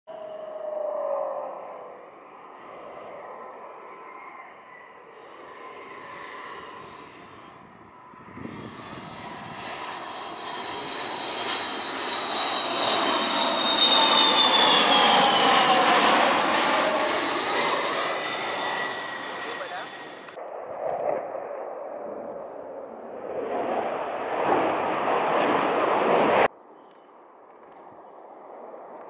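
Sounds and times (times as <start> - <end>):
jet aircraft flying past: 0.3 - 26.5.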